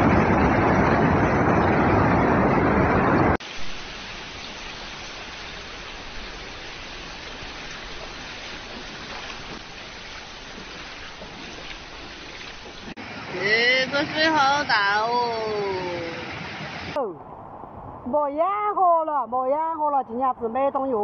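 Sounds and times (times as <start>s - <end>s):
flooded river rushing: 0.0s - 17.0s.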